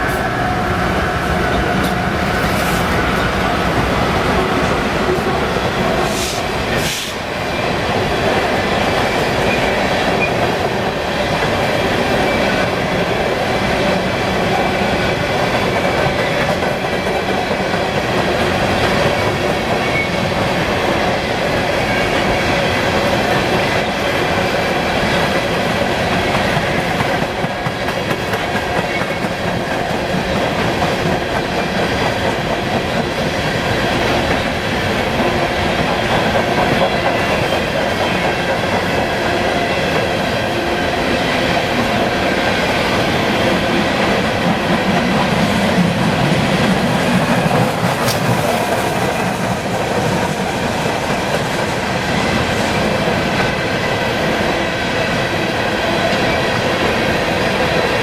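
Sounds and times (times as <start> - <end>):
clickety-clack of train cars: 0.0 - 58.0
freight train rumbling past: 0.0 - 58.0.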